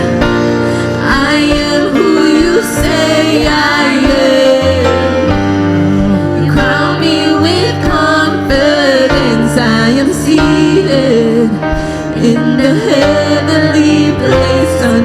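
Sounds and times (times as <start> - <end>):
instrumental backing with bass: 0.0 - 15.0
person singing: 1.0 - 15.0.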